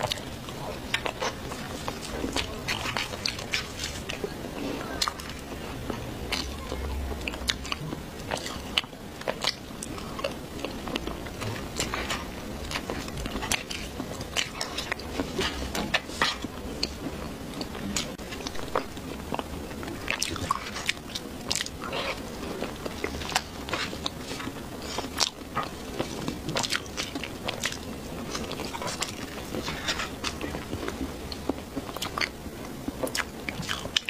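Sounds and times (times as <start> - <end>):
chewing soft cake: 0.0 - 34.0.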